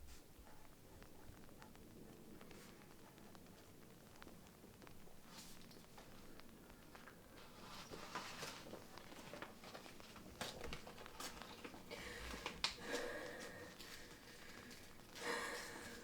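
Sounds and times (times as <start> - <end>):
rustling of things handled: 0.0 - 16.0.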